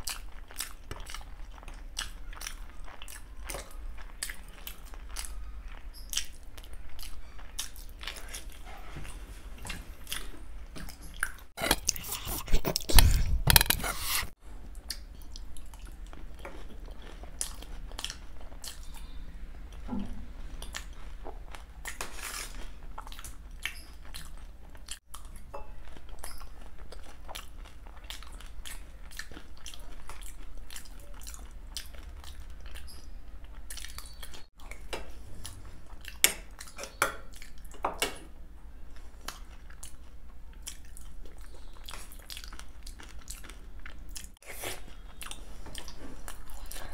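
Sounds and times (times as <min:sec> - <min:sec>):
chewing and biting food: 0:00.0 - 0:37.8, 0:39.0 - 0:46.9.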